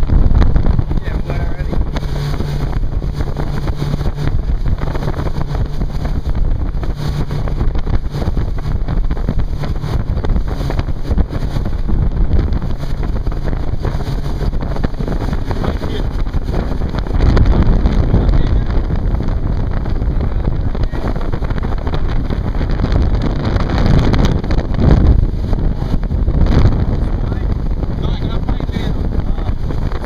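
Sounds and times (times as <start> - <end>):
motorboat engine drone: 0.0 - 30.0
water rushing: 0.0 - 30.0
wind buffeting microphone: 0.0 - 30.0.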